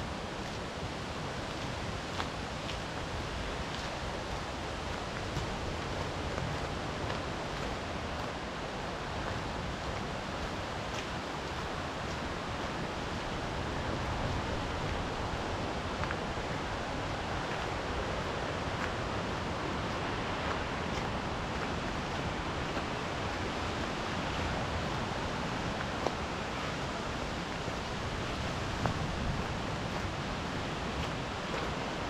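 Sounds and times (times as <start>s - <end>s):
steady outdoor rushing noise: 0.0s - 32.0s.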